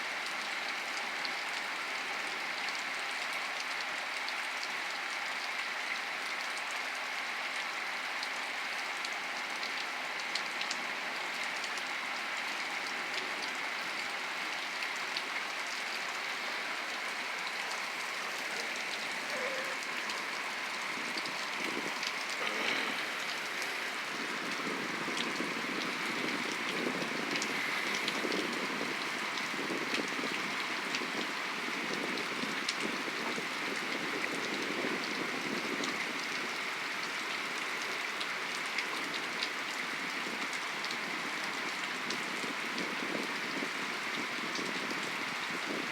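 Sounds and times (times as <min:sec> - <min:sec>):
heavy rain falling: 0:00.0 - 0:45.9
rain drop ticks: 0:00.2 - 0:45.9.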